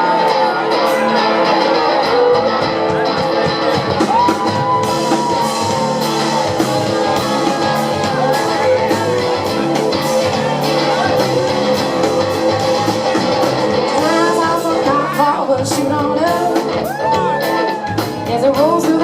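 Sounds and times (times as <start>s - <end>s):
electric guitar melody: 0.0s - 19.0s
live rock band playing: 0.0s - 19.0s.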